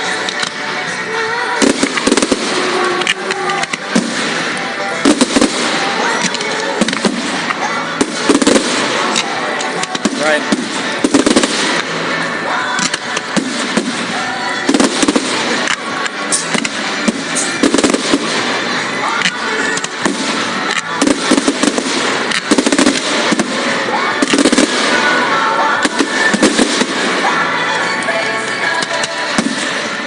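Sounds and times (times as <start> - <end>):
music: 0.0 - 30.0
fireworks bangs and crackles: 1.5 - 30.0.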